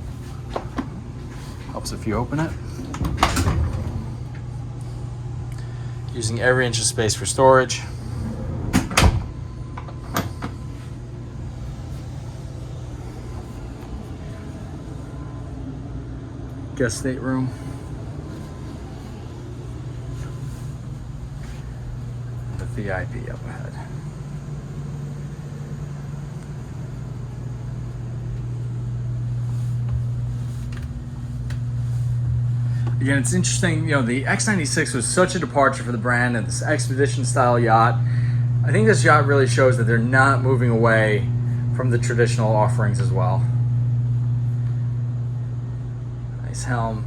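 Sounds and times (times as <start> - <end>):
low background hum: 0.0 - 47.0.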